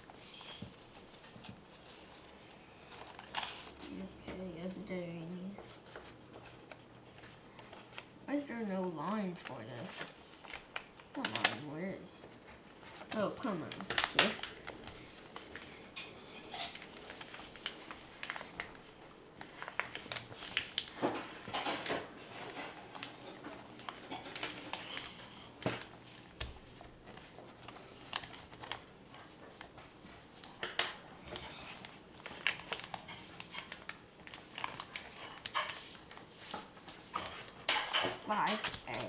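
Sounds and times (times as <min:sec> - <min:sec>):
paper rustling and crinkling: 0:00.0 - 0:39.0.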